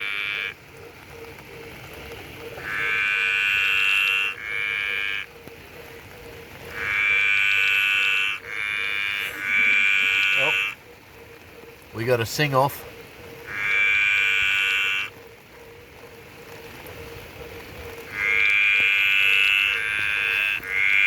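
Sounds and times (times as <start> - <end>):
frog croaking: 0.0 - 21.0
steady rain: 0.0 - 21.0.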